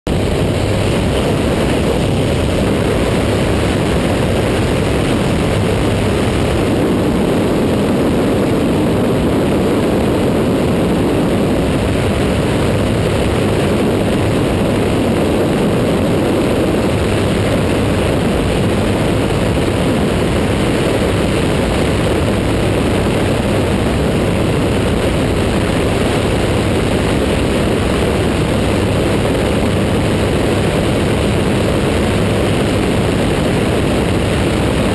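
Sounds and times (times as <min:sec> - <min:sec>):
light airplane engine droning: 0:00.1 - 0:34.9.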